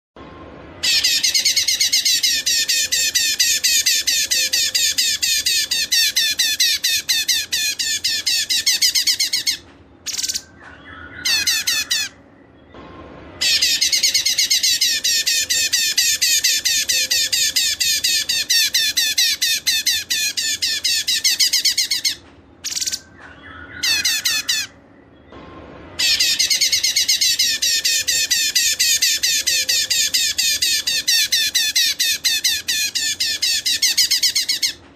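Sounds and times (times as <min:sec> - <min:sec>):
caged songbirds singing: 0:00.3 - 0:34.9.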